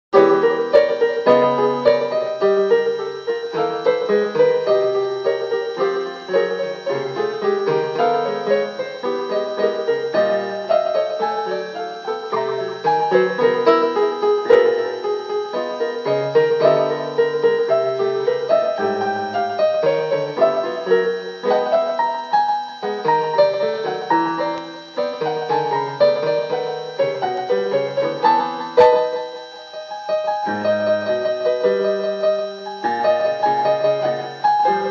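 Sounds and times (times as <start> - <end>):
piano music: 0.1 - 34.9.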